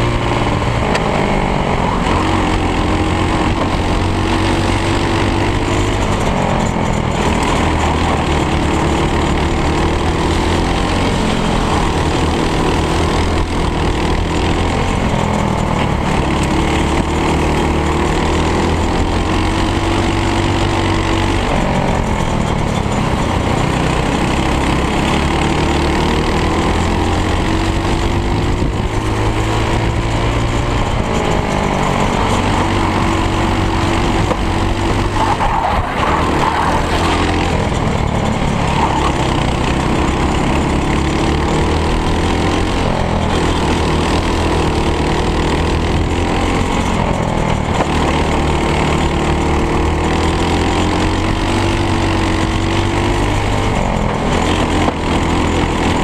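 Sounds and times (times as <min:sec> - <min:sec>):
racing kart engine: 0:00.0 - 0:56.0.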